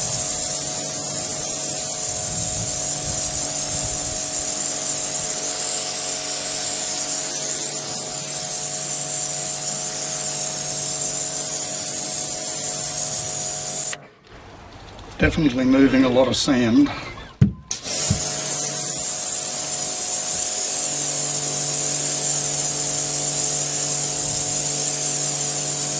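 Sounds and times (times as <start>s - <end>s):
pressure washer motor humming: 0.0s - 14.0s, 17.7s - 25.9s
water jet hissing: 0.0s - 14.0s, 17.7s - 25.9s.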